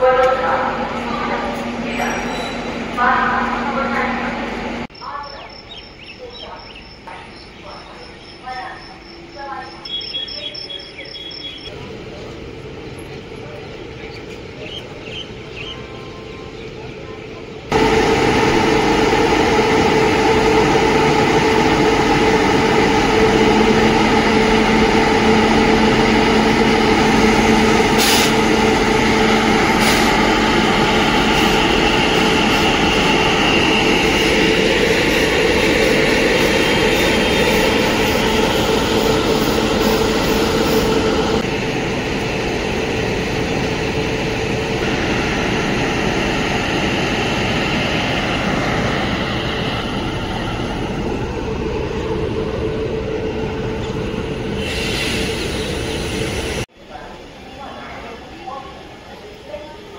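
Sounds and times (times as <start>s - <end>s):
train rumble and rattle: 0.0s - 59.9s.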